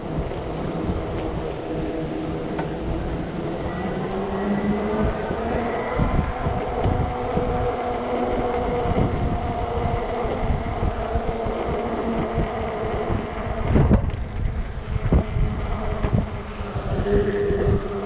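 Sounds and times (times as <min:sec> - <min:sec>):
wind buffeting microphone: 0:00.0 - 0:18.0
electric motor whining: 0:00.2 - 0:18.0.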